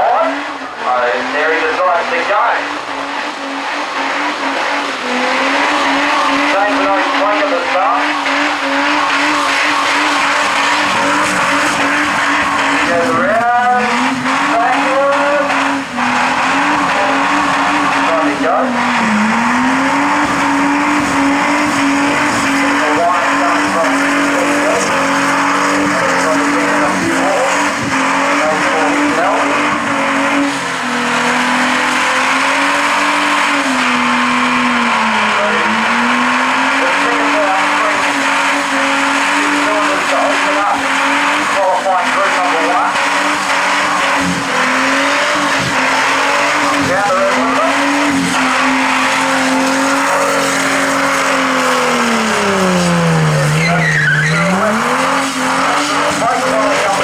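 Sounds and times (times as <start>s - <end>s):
car engine at high revs: 0.0s - 57.0s
tyres wheelspinning on wet concrete: 2.3s - 57.0s.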